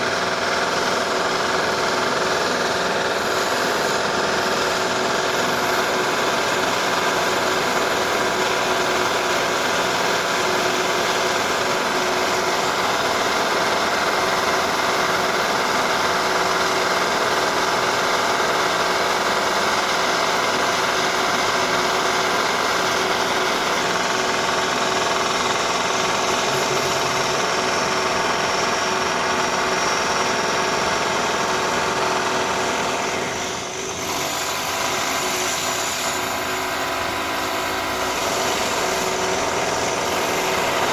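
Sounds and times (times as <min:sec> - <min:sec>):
power drill whining and grinding: 0:00.0 - 0:40.9.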